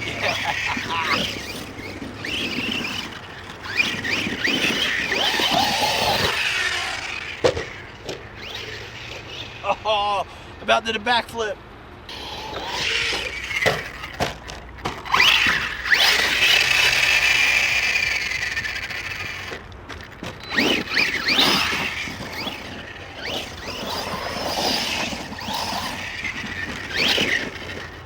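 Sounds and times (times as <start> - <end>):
electric motor whining: 0.0 - 10.7, 12.1 - 28.0.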